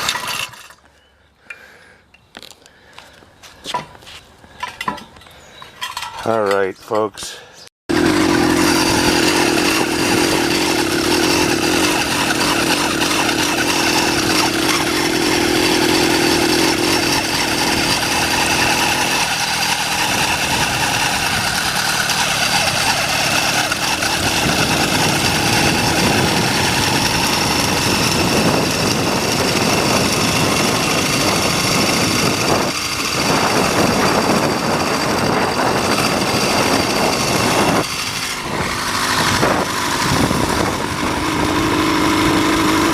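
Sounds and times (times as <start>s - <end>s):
two-stroke engine running: 7.9s - 42.9s.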